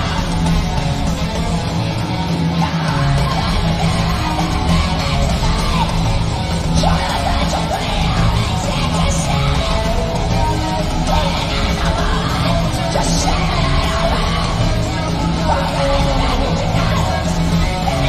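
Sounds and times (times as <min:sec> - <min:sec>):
drums: 0:00.0 - 0:18.0
electric guitars: 0:00.0 - 0:18.0
live rock band playing: 0:00.0 - 0:18.0.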